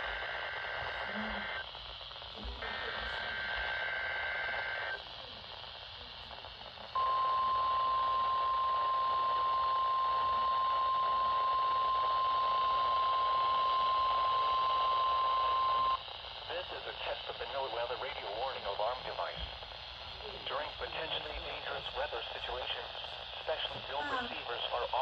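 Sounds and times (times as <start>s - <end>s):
receiver hiss: 0.0s - 25.0s.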